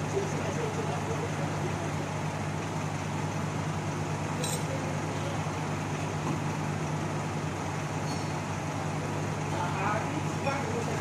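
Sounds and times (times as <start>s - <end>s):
diesel bus engine humming: 0.0s - 11.0s.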